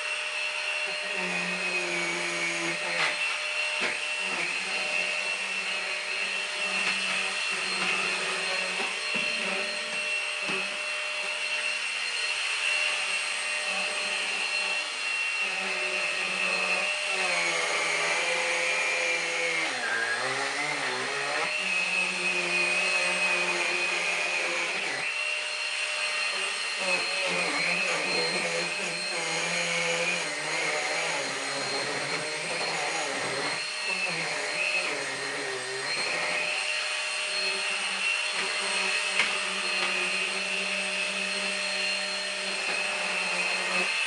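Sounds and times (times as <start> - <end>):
vacuum cleaner motor whine: 0.0 - 44.0.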